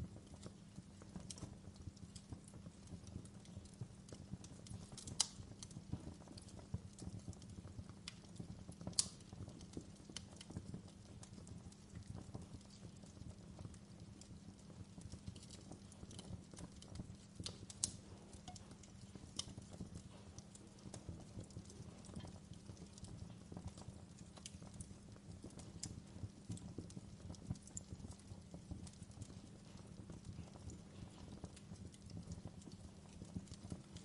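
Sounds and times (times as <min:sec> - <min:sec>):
low rumble of burning logs: 0:00.0 - 0:34.0
wood fire crackling: 0:00.0 - 0:34.0.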